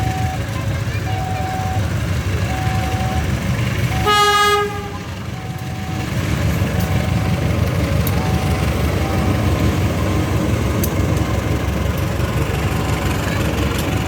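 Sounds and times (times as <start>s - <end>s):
diesel train engine rumble: 0.0s - 14.0s.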